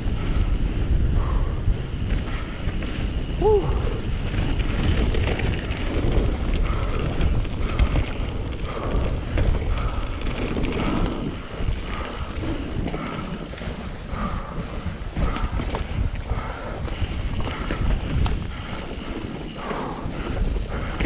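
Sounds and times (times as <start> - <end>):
bike rattling: 0.0 - 21.0
tyres rumbling over trail: 0.0 - 21.0
wind on microphone: 0.0 - 21.0.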